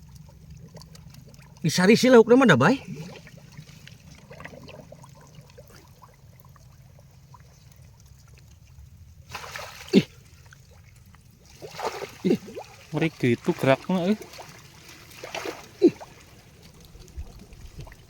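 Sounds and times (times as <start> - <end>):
shallow water sloshing and splashing: 0.0 - 18.0.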